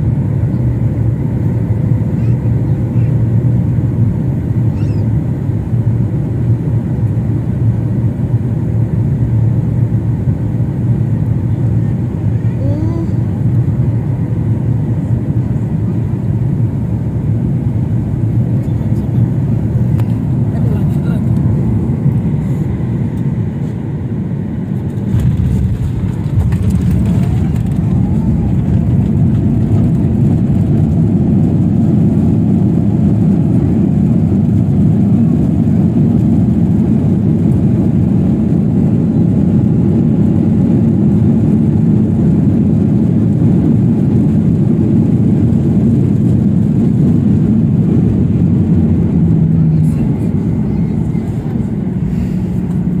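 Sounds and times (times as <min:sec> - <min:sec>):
jet airliner cabin rumble: 0:00.0 - 0:53.0.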